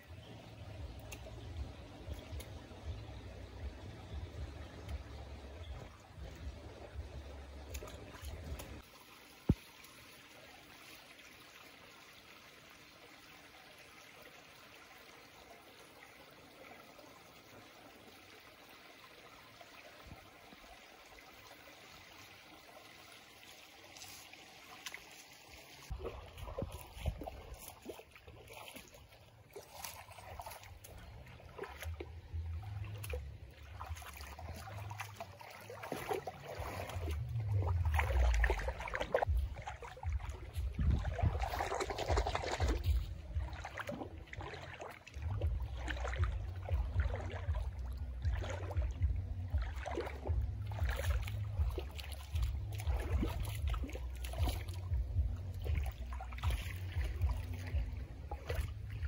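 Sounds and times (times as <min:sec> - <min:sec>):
animal wading and splashing: 0:00.0 - 0:59.0
trickling shallow water: 0:00.0 - 0:59.0.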